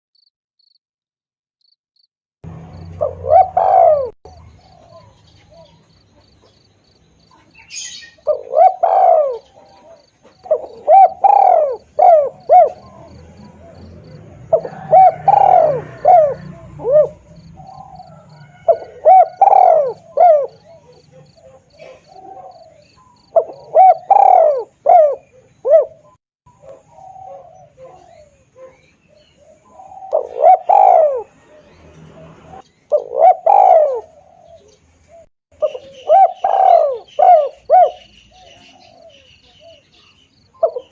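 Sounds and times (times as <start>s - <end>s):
dove cooing: 2.8s - 5.9s, 7.3s - 40.9s.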